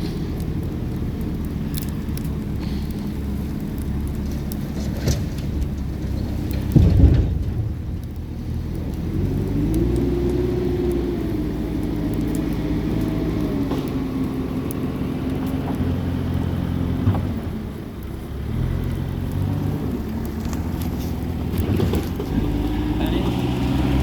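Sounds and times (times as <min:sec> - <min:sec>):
campfire crackling: 0:00.0 - 0:24.0
engine humming: 0:00.0 - 0:24.0.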